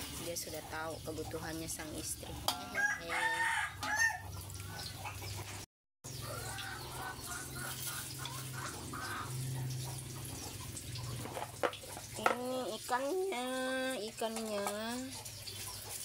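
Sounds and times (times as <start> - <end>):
chickens clucking: 0.3 - 16.0.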